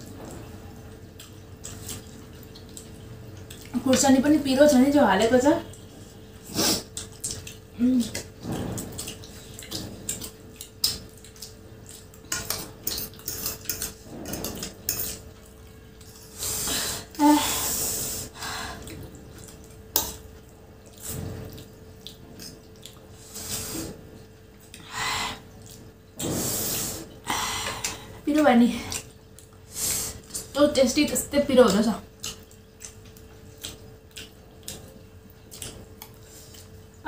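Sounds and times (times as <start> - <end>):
slurping and chewing noodles: 0.0 - 3.8, 5.7 - 28.1, 32.0 - 37.0.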